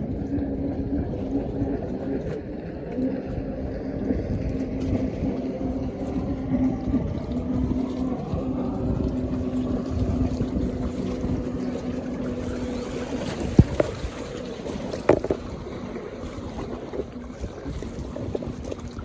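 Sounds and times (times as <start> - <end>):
motorboat engine humming: 0.0 - 19.0
wind noise on microphone: 0.0 - 19.0.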